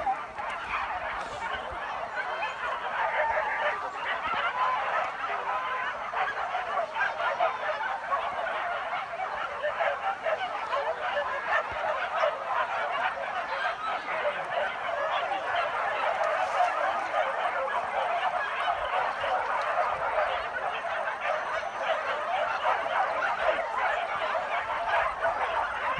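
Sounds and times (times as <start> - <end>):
dogs yelping and baying: 0.0 - 25.9.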